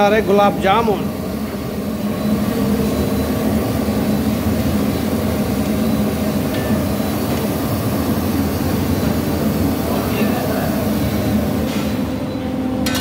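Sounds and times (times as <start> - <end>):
kitchen gas range roaring: 0.0 - 13.0.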